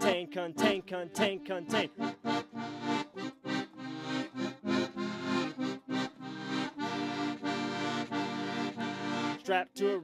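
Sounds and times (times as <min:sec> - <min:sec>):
accordion playing chords: 0:00.0 - 0:10.0.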